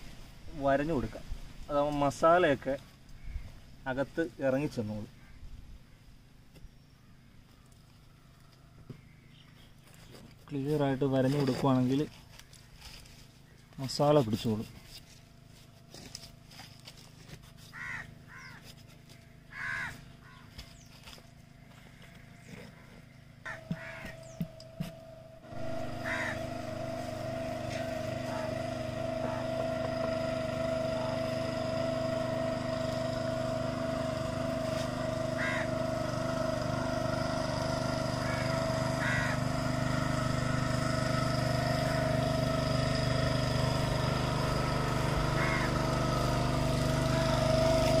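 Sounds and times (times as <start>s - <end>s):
engine droning hum: 0.0s - 48.0s.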